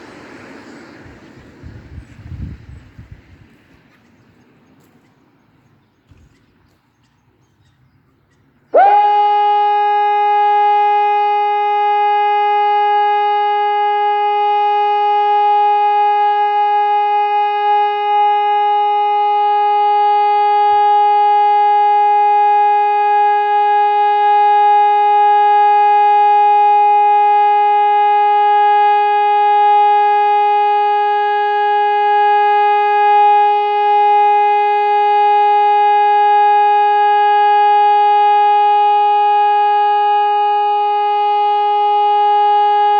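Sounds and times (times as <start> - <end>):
electronic siren steady tone: 0.0 - 4.0, 8.7 - 42.9.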